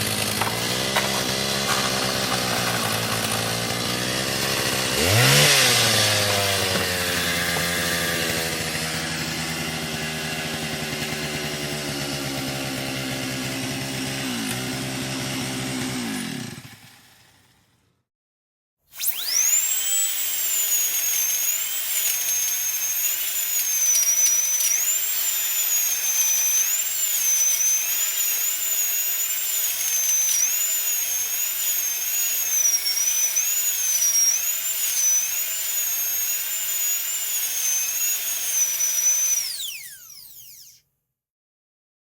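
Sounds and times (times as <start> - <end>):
rotary drill whining: 0.0 - 16.9, 18.9 - 40.9.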